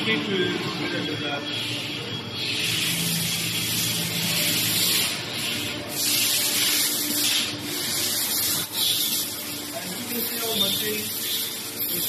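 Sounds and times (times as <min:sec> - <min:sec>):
machine hiss: 0:01.5 - 0:12.0.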